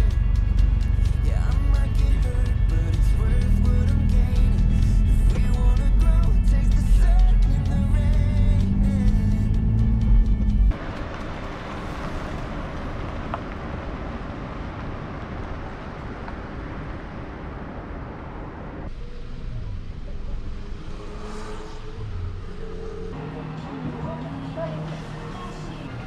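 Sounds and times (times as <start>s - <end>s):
car engine: 0.0s - 26.0s
tyre and road noise: 0.0s - 26.0s.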